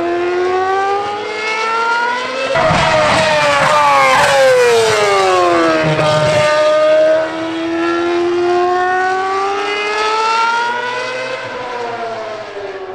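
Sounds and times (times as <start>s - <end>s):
racing car engine passing at speed: 0.2s - 12.9s.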